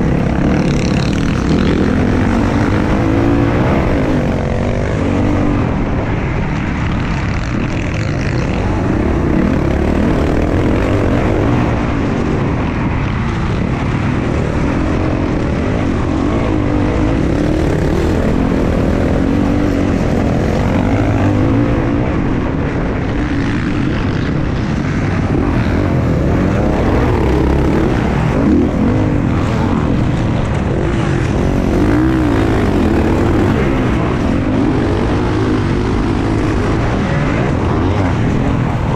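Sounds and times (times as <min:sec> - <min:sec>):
dirt bike engine revving: 0:00.0 - 0:22.4, 0:23.0 - 0:38.9.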